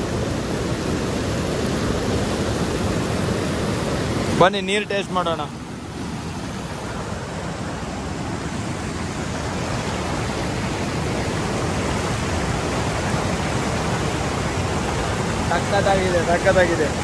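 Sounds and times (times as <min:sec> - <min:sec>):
rushing mountain stream: 0:00.0 - 0:17.0.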